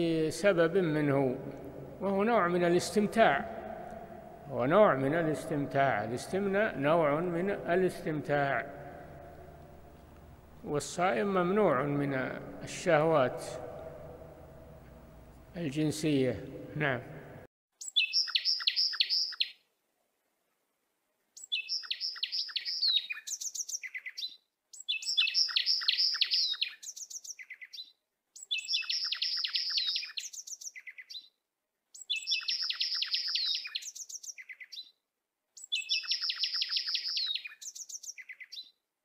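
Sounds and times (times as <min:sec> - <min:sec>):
songbird singing: 0:00.0 - 0:14.9, 0:17.8 - 0:19.6, 0:21.4 - 0:31.4, 0:32.0 - 0:35.0, 0:35.6 - 0:38.8.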